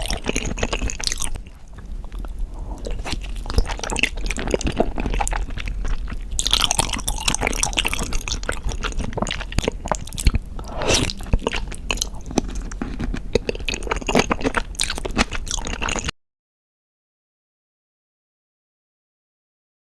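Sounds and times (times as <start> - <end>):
close chewing and biting: 0.0 - 16.1.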